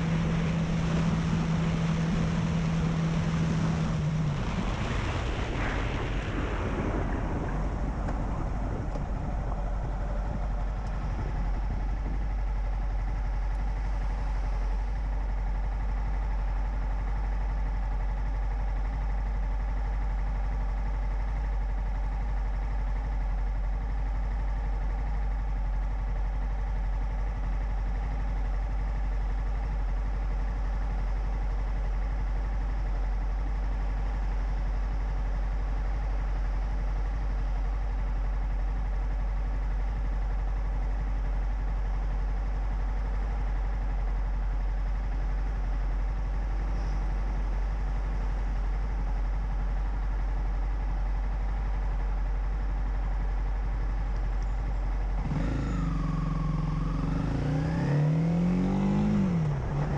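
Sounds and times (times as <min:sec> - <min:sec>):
motorcycle engine idling: 0:00.0 - 0:04.5, 0:06.4 - 0:59.9.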